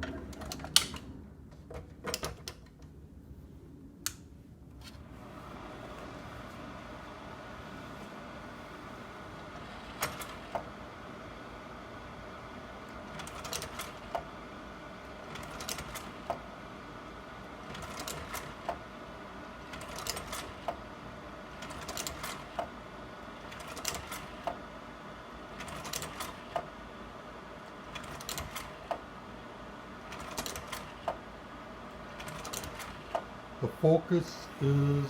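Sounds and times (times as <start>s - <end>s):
projector cooling fan hum: 0.0s - 35.0s.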